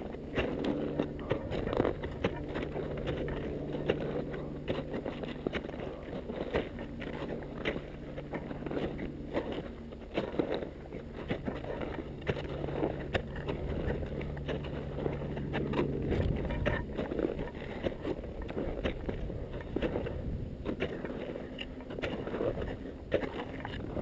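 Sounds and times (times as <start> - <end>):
boots crunching in snow: 0.0 - 24.0
poles planting in snow: 0.0 - 24.0
steady low hum: 0.0 - 24.0.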